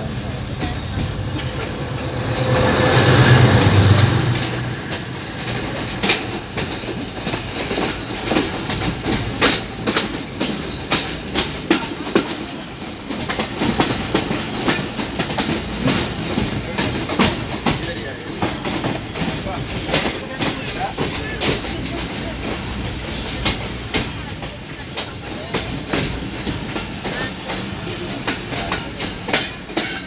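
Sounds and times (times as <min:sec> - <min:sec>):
locomotive engine hum: 0:00.0 - 0:30.0
train rolling rumble: 0:00.0 - 0:30.0
train wheels clacking on rail joints: 0:00.2 - 0:30.0.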